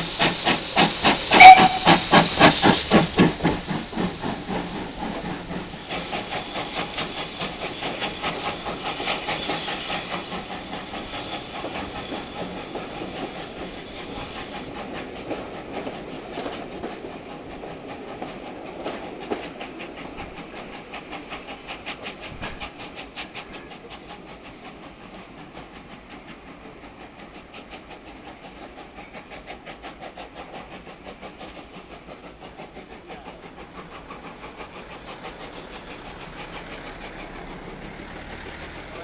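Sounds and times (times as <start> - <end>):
train wheels clickety-clack: 0.0 - 39.0.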